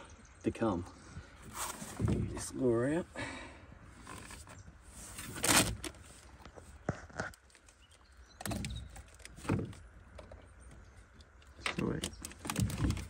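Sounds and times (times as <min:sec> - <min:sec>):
knocks and scrapes in a dinghy: 0:00.6 - 0:03.1, 0:03.7 - 0:13.0.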